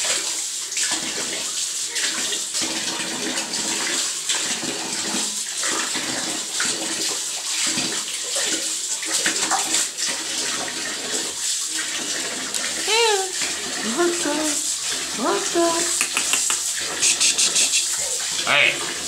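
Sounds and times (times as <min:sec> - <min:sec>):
tap water pouring into tub: 0:00.0 - 0:19.0
water splashing: 0:00.0 - 0:19.0.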